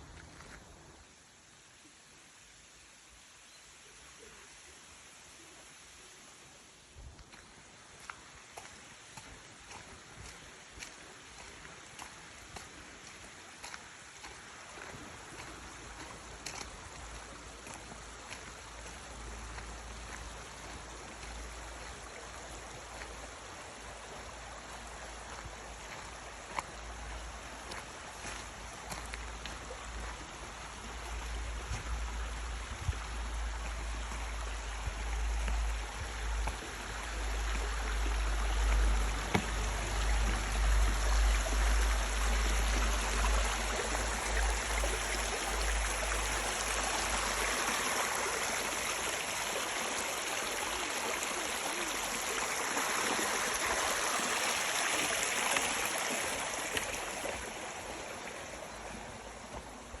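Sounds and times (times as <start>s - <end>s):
mountain stream rushing: 0.0s - 60.0s.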